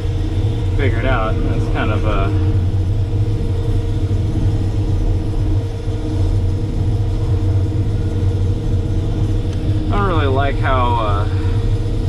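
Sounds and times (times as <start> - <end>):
diesel engine rumbling: 0.0 - 12.0
faint steady hum: 0.0 - 12.0.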